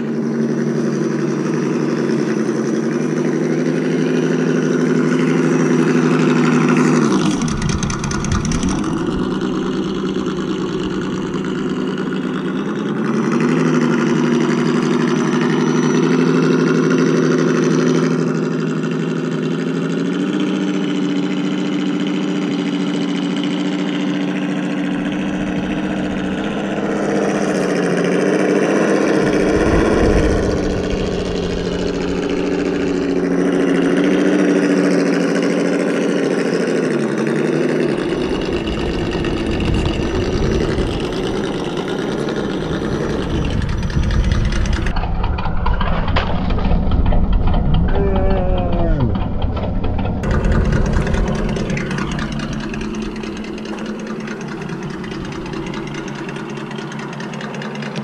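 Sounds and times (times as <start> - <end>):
simulated engine from small speaker: 0.0 - 58.0.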